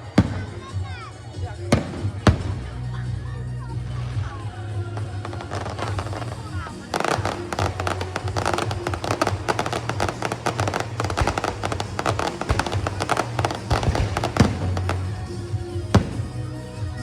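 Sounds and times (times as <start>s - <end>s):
fireworks crackling pops: 0.0s - 1.1s, 1.7s - 3.0s, 5.0s - 17.0s.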